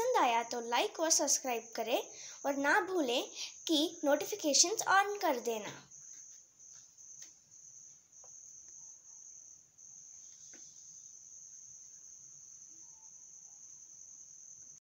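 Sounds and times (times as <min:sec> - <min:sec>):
high-pitched insect trill: 0:00.0 - 0:14.8.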